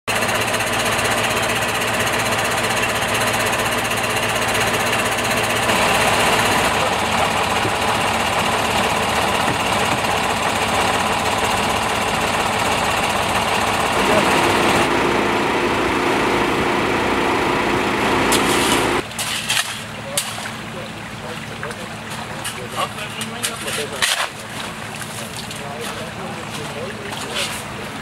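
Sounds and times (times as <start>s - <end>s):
diesel engine running: 0.1s - 28.0s.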